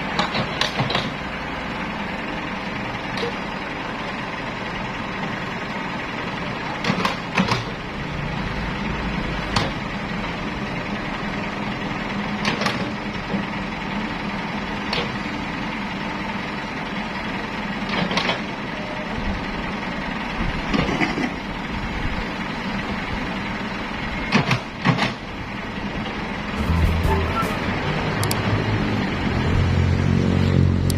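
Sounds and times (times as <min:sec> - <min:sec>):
heavy machinery engines running: 0:00.0 - 0:30.9.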